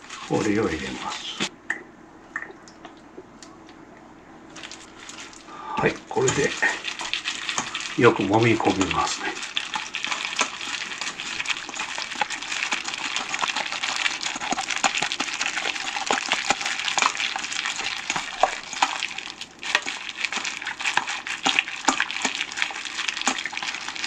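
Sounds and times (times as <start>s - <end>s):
wet squishing of meat: 4.5s - 24.0s.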